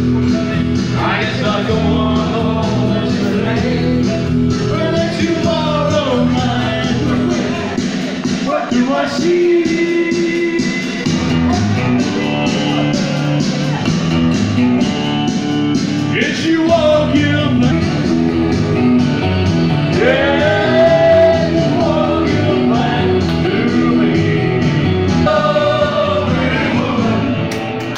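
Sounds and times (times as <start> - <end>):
backing track with beat: 0.0 - 27.9.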